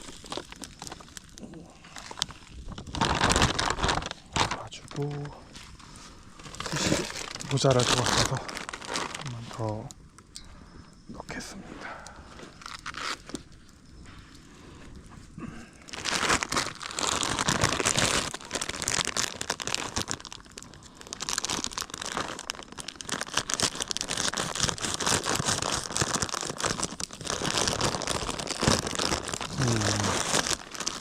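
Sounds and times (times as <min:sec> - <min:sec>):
packaging tearing and crinkling: 0:00.0 - 0:09.8, 0:12.4 - 0:13.6, 0:15.9 - 0:31.0.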